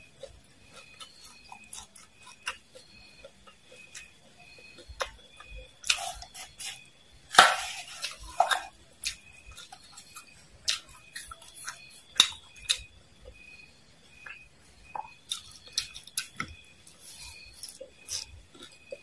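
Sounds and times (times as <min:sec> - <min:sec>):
crispy food crackling and rustling: 0:00.0 - 0:19.0.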